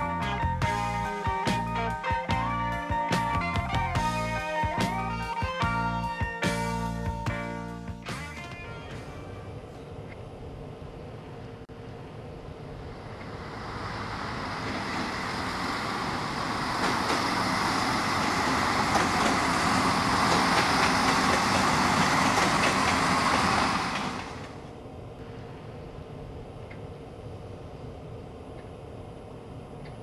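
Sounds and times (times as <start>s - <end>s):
train rushing through station: 0.0s - 29.7s.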